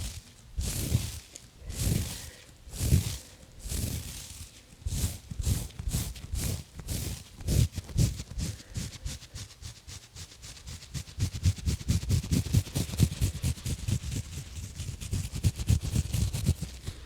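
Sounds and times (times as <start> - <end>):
gloves scratching a microphone: 0.0 - 17.0.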